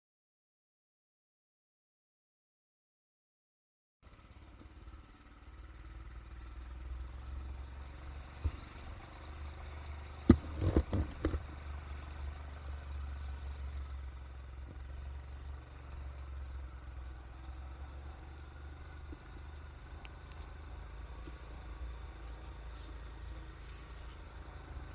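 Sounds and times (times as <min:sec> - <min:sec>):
vehicle rumbling: 0:04.0 - 0:24.9.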